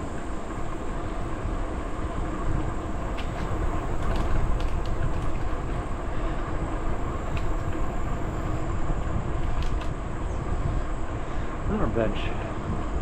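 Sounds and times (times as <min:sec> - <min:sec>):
bicycle tyres rolling on trail: 0:00.0 - 0:13.0
wind on the microphone: 0:00.0 - 0:13.0.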